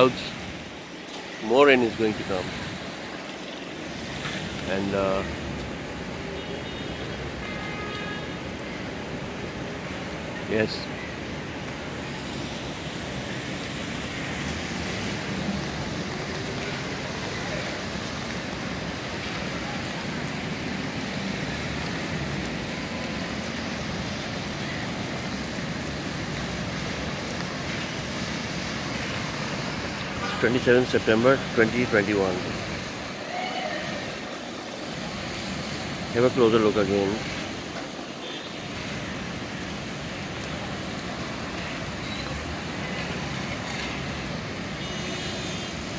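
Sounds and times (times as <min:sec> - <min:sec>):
rain hissing: 0:00.0 - 0:45.9
traffic on wet roads: 0:00.0 - 0:45.9.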